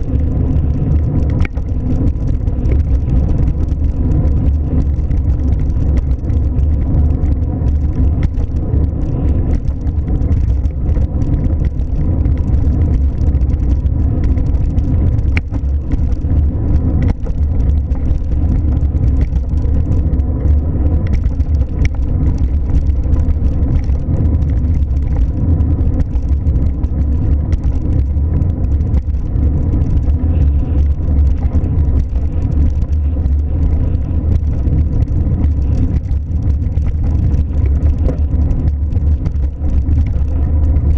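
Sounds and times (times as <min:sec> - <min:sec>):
car driving rumble: 0:00.0 - 0:40.9
faint clicks: 0:00.0 - 0:40.9.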